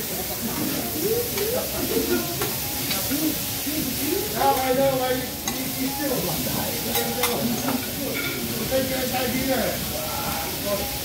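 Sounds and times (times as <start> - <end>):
food sizzling on griddle: 0.0 - 11.0
people talking: 0.0 - 11.0.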